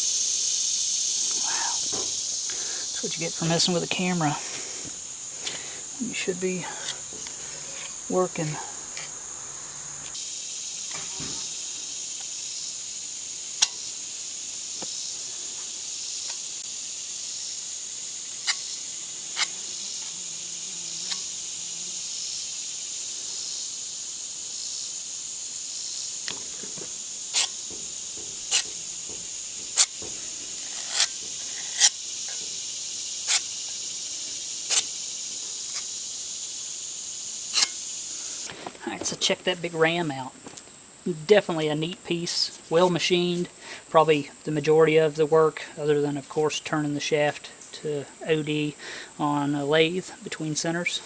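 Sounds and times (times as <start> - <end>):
crickets droning: 0.0 - 51.0.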